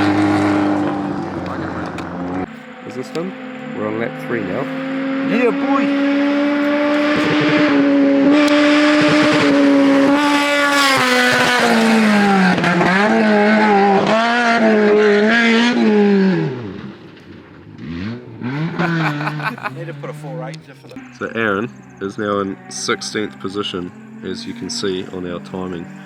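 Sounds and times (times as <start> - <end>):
race car engine shifting gears: 0.0 - 21.0.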